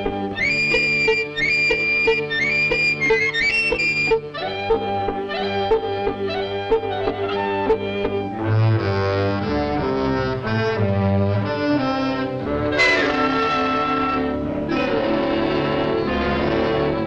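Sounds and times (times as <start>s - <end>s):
orchestral strings: 0.0s - 17.0s.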